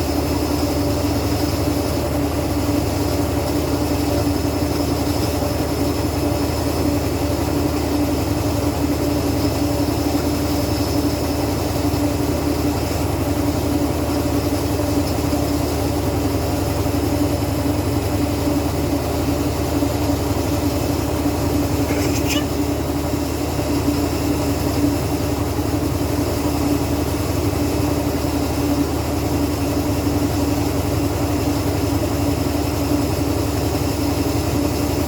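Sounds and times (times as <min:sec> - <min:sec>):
washing machine humming: 0:00.0 - 0:35.0.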